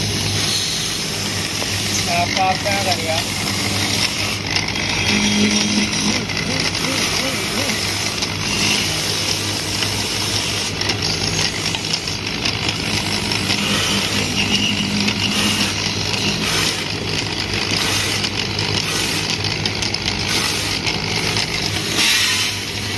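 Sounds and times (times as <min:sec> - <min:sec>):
cutting tool shaving wood: 0:00.0 - 0:22.9
lathe motor humming: 0:00.0 - 0:22.9.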